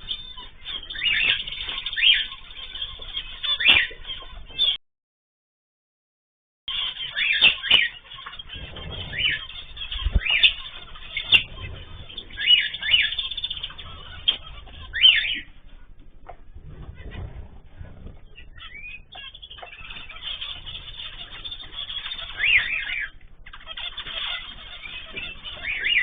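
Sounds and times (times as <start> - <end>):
cage birds chirping: 0.0 - 4.8, 6.7 - 26.0.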